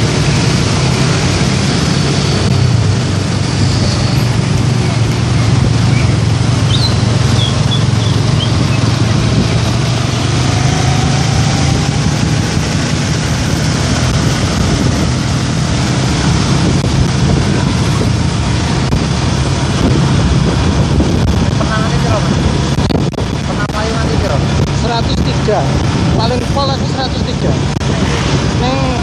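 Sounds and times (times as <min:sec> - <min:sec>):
motorcycle engine running: 0:00.0 - 0:28.0
wind and road noise: 0:00.0 - 0:29.0.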